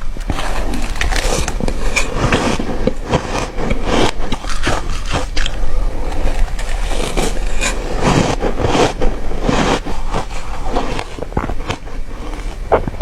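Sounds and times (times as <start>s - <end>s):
ice being crunched: 0.2s - 13.0s.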